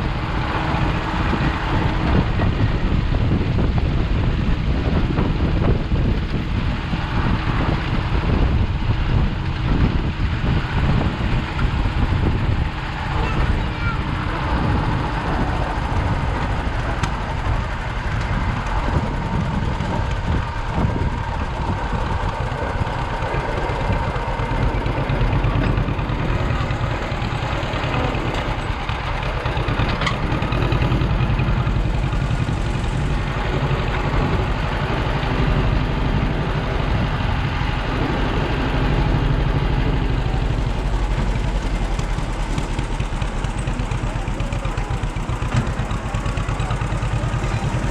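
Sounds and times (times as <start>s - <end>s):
engine running at low speed: 0.0s - 47.9s.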